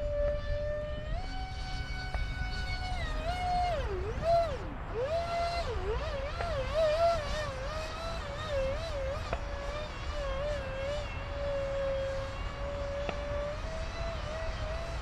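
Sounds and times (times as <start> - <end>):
electric ducted fan whine: 0.0 - 15.0
wind rumbling on microphone: 0.0 - 15.0.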